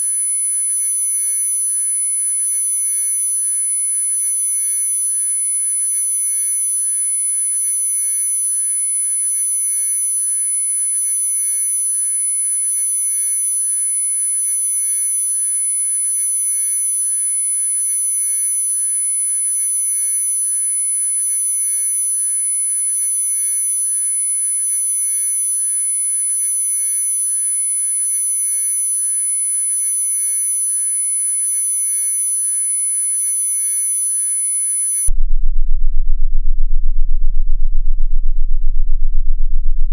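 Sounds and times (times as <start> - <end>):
faint lower sine tones: 0.0 - 39.9
steady high-pitched sine tone: 0.0 - 39.9.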